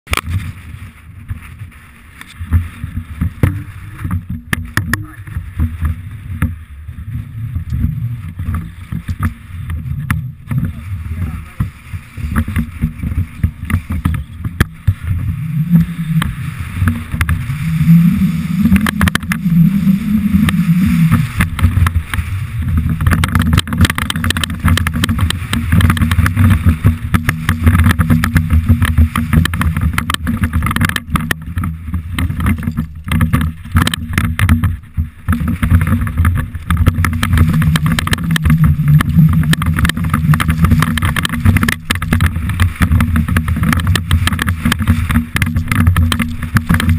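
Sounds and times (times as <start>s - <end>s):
bike rattling over gravel: 0.0s - 46.9s
wind rumble on microphone: 0.0s - 46.9s.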